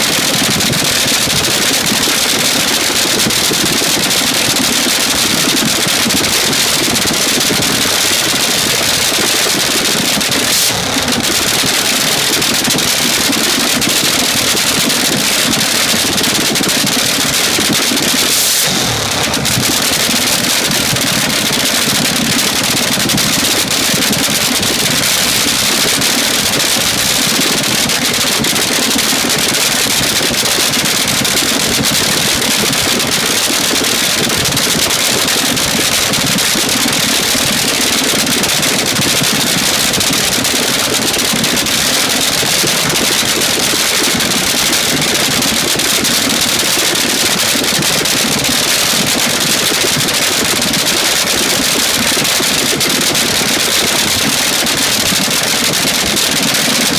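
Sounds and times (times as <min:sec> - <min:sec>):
dragster engine idling: 0:00.0 - 0:56.9.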